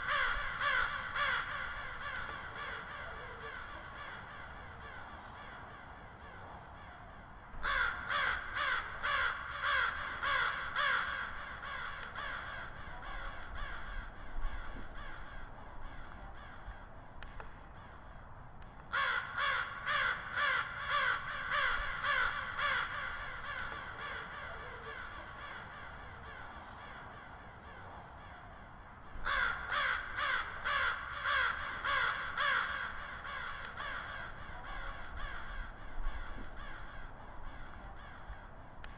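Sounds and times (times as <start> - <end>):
crow cawing: 0.0 - 18.3, 18.9 - 38.9.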